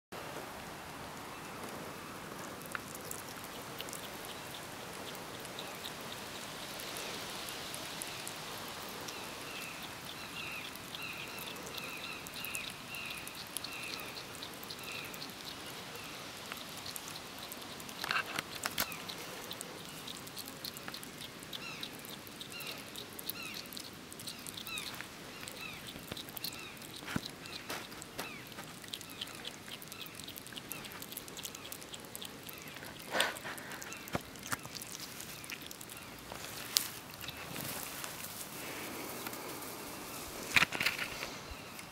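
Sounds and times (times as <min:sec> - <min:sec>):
hedgehog chewing wet crunching: 0:01.4 - 0:41.9.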